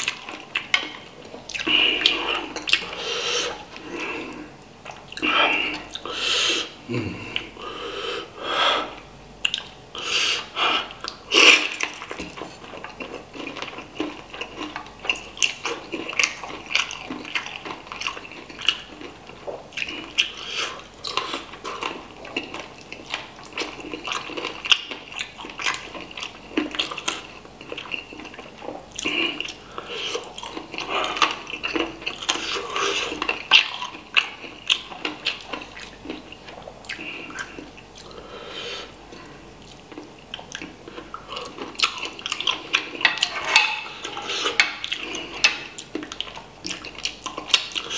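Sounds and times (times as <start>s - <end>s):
person chewing and sucking: 0.0s - 7.6s, 8.8s - 47.9s.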